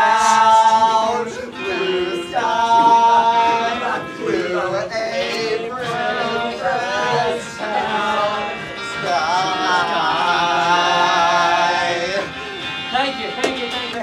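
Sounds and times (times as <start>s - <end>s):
young men singing: 0.0s - 14.0s.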